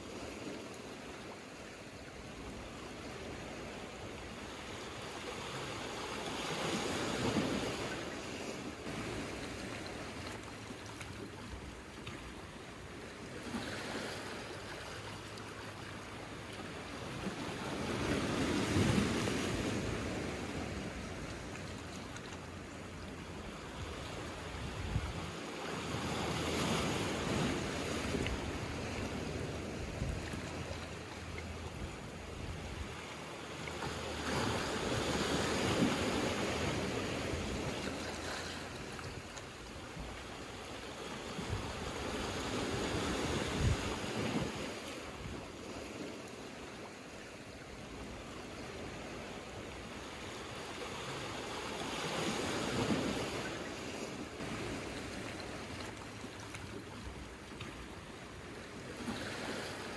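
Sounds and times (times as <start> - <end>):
sea waves over rocks and pebbles: 0.0 - 59.9.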